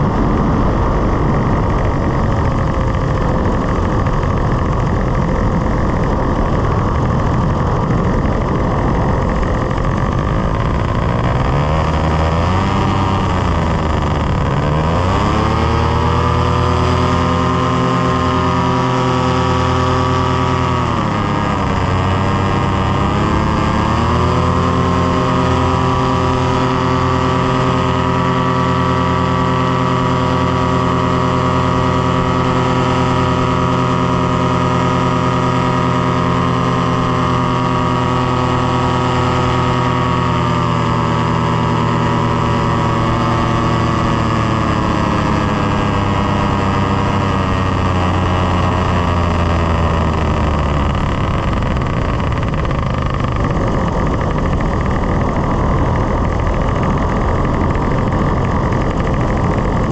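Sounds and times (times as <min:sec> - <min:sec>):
paramotor engine running: 0:00.0 - 0:59.9
wind noise: 0:00.0 - 0:59.9.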